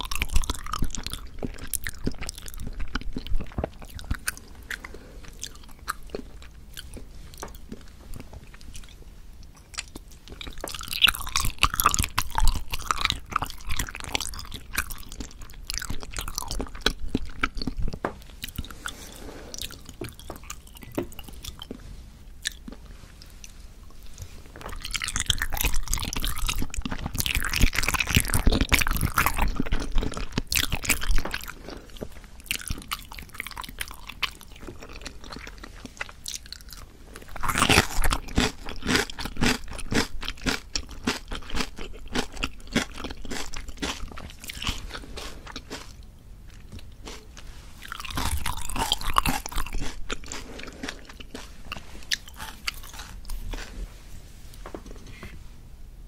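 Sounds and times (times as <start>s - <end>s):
chewing chewy jelly: 0.0s - 53.8s.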